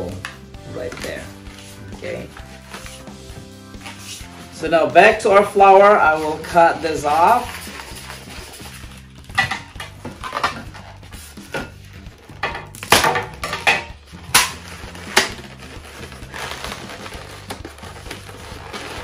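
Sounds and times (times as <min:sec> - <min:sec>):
balloons rubbing and crinkling: 0:00.0 - 0:12.8, 0:14.0 - 0:19.0.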